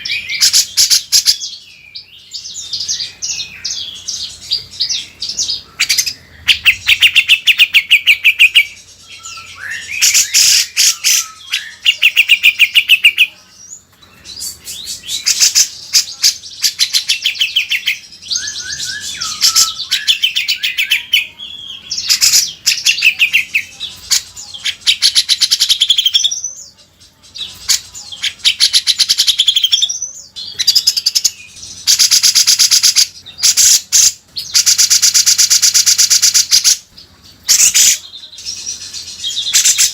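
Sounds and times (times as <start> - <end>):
bird singing chattering trills: 0.0 - 39.9.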